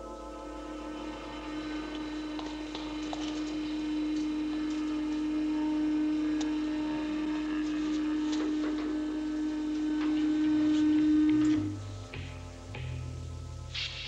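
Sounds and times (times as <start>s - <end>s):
low held note: 0.0s - 14.0s.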